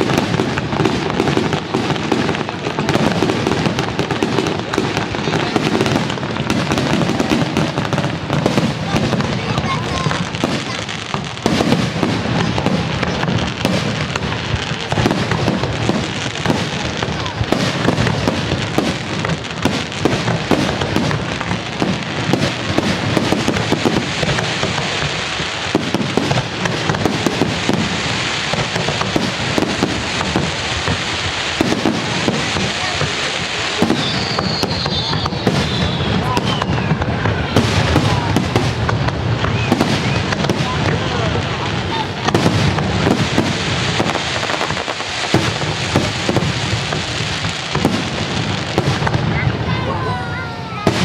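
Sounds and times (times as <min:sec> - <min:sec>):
firework whistles: 0:00.0 - 0:51.0
fireworks crackling and banging: 0:00.0 - 0:51.0.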